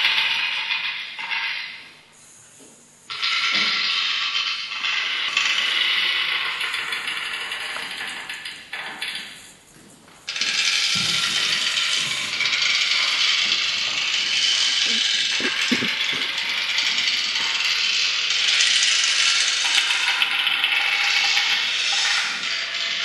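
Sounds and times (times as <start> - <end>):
grainy clicking noise texture: 3.1 - 9.6, 10.3 - 23.0.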